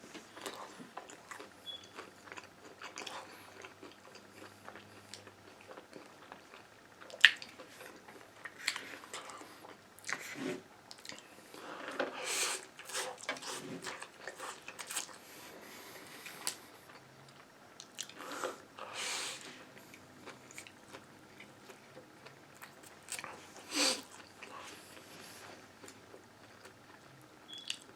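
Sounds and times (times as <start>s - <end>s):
person chewing food: 0.1s - 27.9s.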